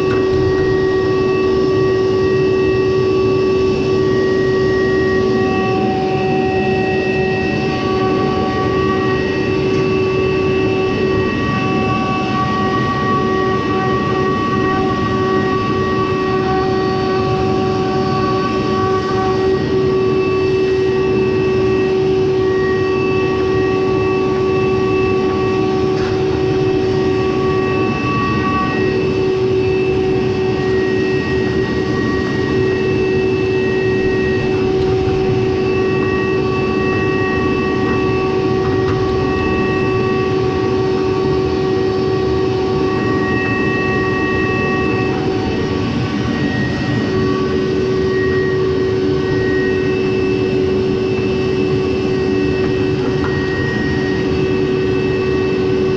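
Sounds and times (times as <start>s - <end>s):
high whining tones: 0.0s - 55.9s.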